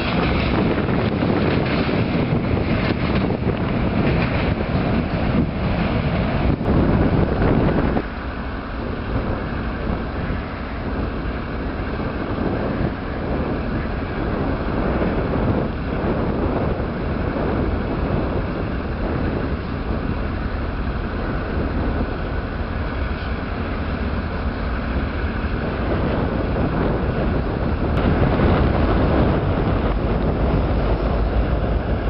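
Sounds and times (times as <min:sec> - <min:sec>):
diesel locomotive engine rumble: 0:00.0 - 0:32.0
wind buffeting microphone: 0:00.0 - 0:32.0.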